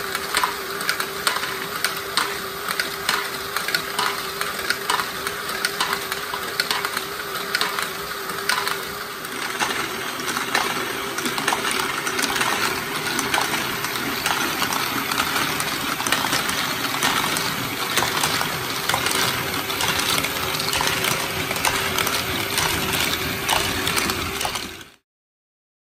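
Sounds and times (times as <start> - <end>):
motor hum: 0.0 - 25.0
plastic balls clicking and clattering: 0.2 - 25.0.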